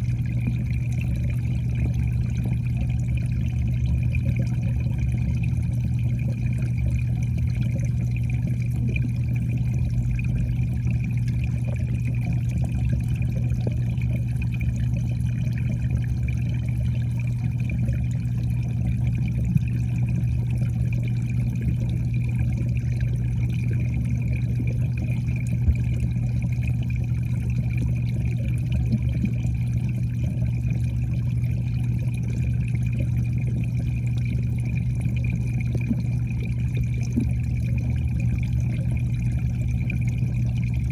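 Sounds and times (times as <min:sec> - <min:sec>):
low underwater hum: 0:00.0 - 0:40.9.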